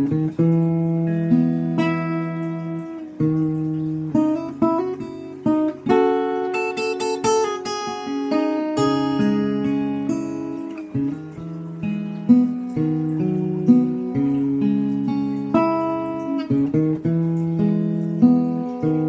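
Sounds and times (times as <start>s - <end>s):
acoustic guitar picking melody: 0.0s - 19.0s.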